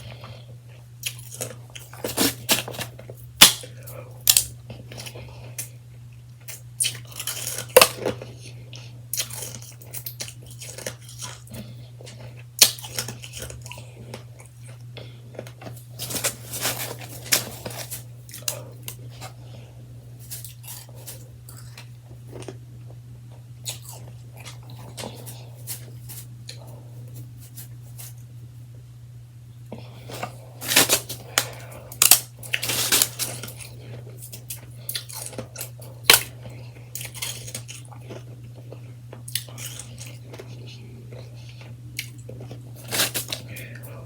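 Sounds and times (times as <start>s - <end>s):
person chewing shaved ice: 0.0s - 28.3s, 29.6s - 44.0s.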